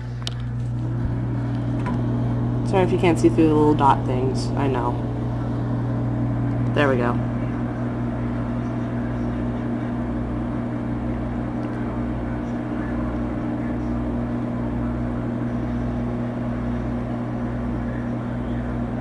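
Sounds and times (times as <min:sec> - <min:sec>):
microwave oven running: 0:00.0 - 0:19.0.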